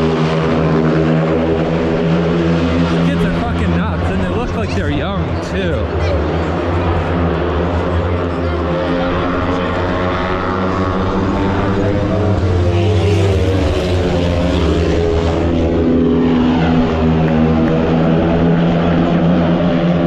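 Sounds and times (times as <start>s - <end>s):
motorcycles racing: 0.0s - 20.0s.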